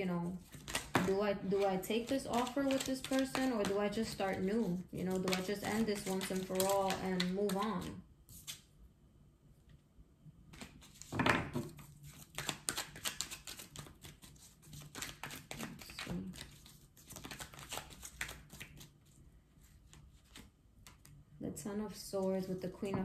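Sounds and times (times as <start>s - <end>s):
cards being shuffled: 0.3s - 8.7s, 10.5s - 21.2s.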